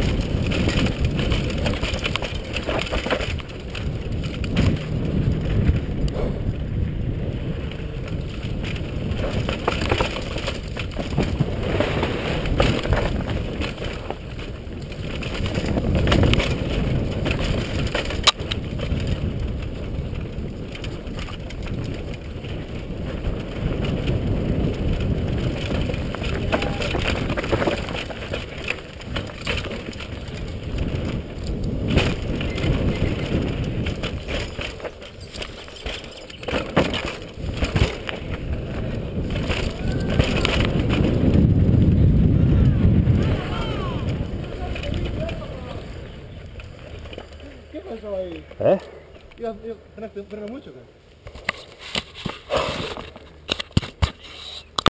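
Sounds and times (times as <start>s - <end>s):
wind on microphone: 0.0s - 47.7s
bike rattling and knocking: 0.0s - 54.9s
bike tyres on dirt and stones: 0.0s - 54.9s.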